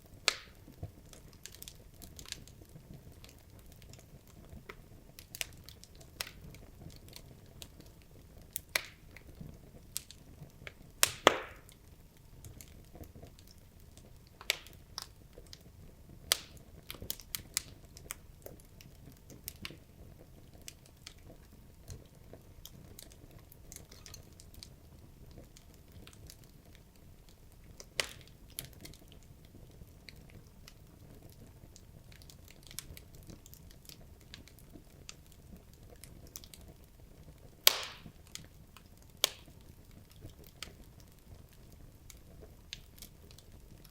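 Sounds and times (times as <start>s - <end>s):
logs crackling in fireplace: 0.0s - 43.9s.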